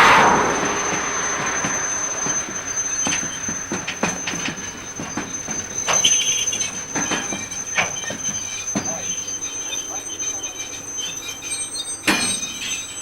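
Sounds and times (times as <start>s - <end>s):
high wheel squeal: 0.0s - 13.0s
freight train wheels clanking: 0.9s - 13.0s.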